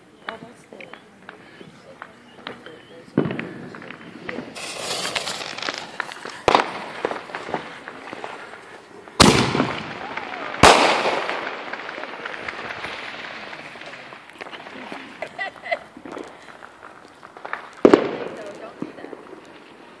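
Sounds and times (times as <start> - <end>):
crackling hiss: 0.0 - 20.0
firework bangs: 0.2 - 20.0.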